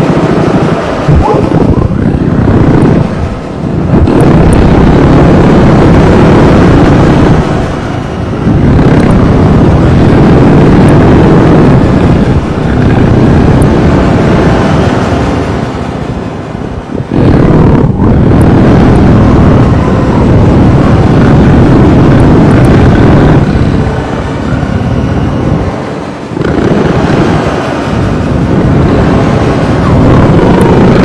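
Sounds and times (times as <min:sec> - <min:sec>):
harsh noise wall: 0:00.0 - 0:31.0.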